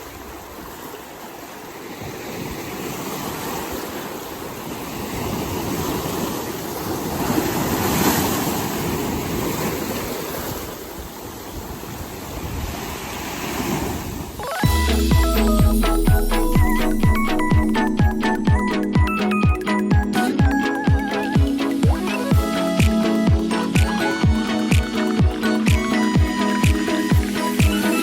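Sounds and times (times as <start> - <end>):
rough sea waves breaking: 0.0 - 28.0.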